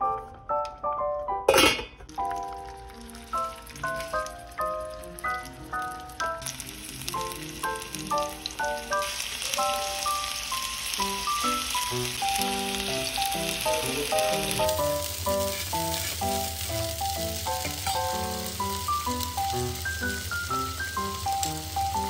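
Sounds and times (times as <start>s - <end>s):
light background melody: 0.0s - 22.0s
meatballs sizzling in oil: 2.1s - 22.0s.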